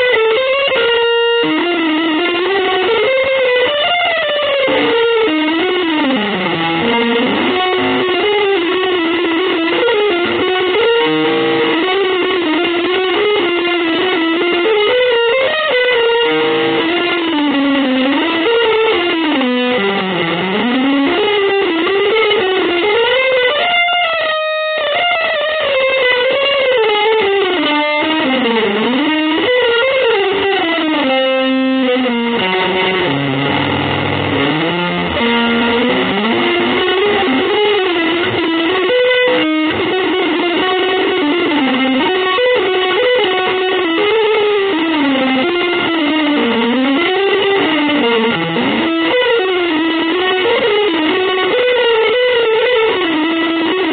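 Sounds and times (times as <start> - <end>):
electric guitar melody: 0.0 - 53.9.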